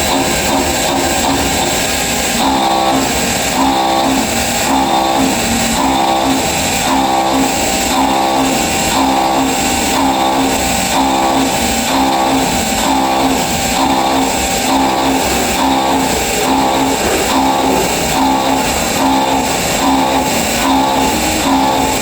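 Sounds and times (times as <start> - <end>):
milling machine cutting whine: 0.0 - 22.0.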